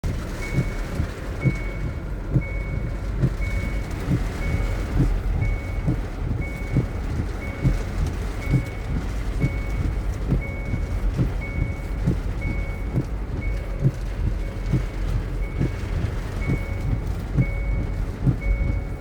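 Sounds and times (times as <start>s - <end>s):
low vehicle rumble: 0.0s - 19.0s
vehicle reversing alarm beeping: 0.1s - 19.0s.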